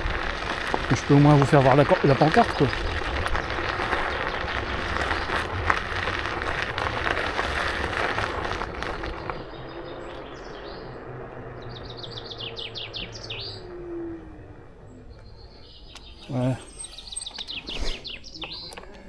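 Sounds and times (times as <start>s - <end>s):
bird chirping: 0.0s - 19.0s
electric scooter riding hum: 0.0s - 19.0s.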